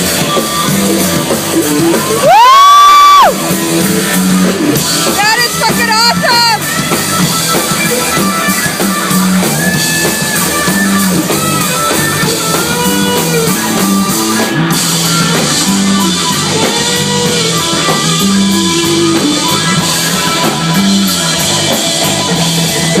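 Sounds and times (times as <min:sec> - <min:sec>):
drum kit: 0:00.0 - 0:23.0
electric guitar: 0:00.0 - 0:23.0
repeating bass line: 0:00.0 - 0:23.0.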